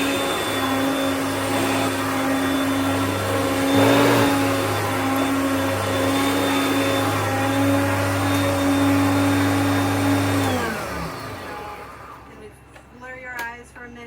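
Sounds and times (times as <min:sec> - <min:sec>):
vacuum cleaner running: 0:00.0 - 0:12.8.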